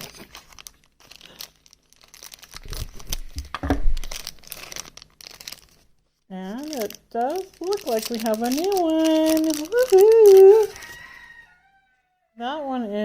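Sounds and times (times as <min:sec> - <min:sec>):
packaging tearing and crinkling: 0:00.0 - 0:11.4.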